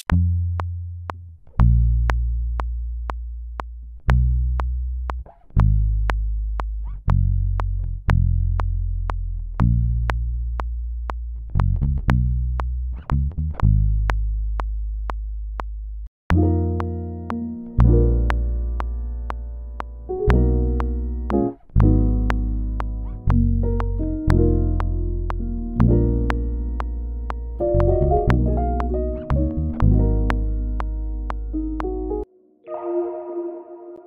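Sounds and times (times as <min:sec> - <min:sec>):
electric bass guitar notes: 0:00.0 - 0:34.0.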